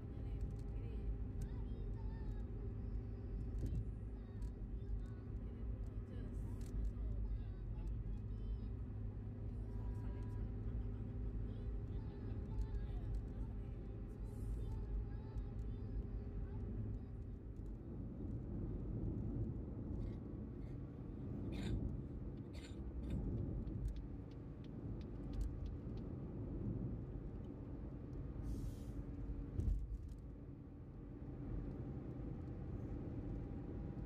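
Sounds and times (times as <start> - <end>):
road and tyre rumble: 0.0 - 34.0.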